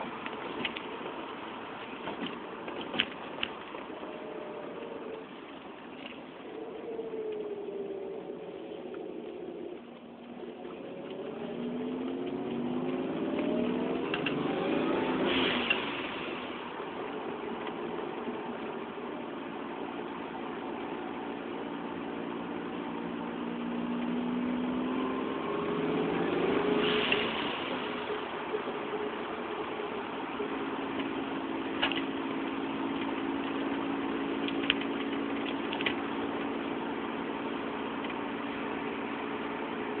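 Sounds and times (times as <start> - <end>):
turbocharged car engine revving: 6.4 - 40.0.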